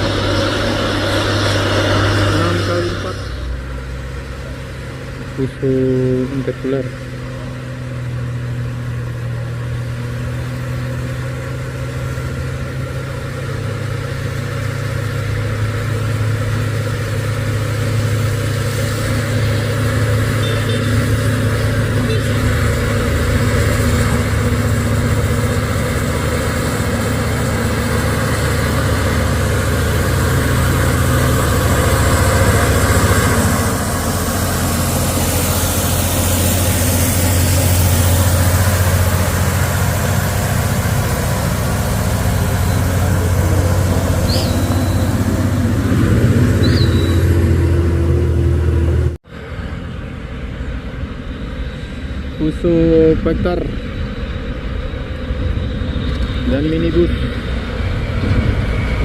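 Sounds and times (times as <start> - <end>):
truck diesel engine climbing: 0.0 - 59.0.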